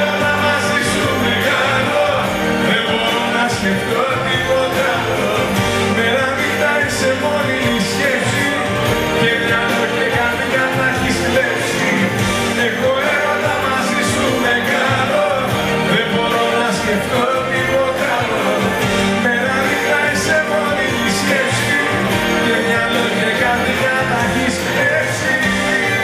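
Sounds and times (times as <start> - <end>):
drums: 0.0 - 26.0
electric guitar: 0.0 - 26.0
man singing into a microphone: 0.0 - 26.0.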